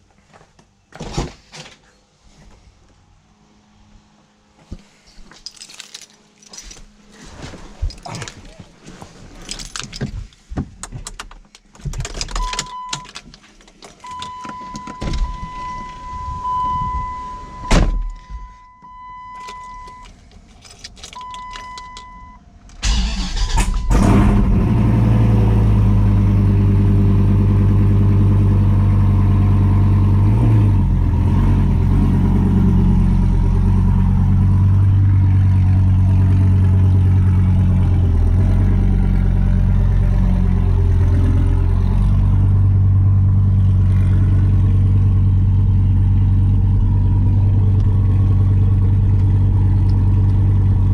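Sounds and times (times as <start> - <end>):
car engine starting and idling: 9.5 - 50.9.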